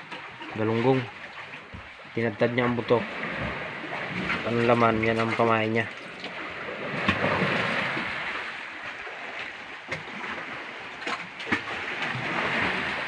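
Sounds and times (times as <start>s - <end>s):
water splashing against boat hull: 0.0s - 13.0s.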